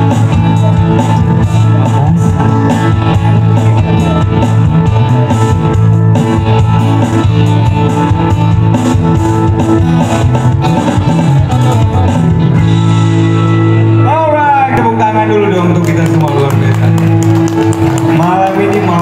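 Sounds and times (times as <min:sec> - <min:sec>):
guitars strummed and picked: 0:00.0 - 0:19.0
live band playing: 0:00.0 - 0:19.0.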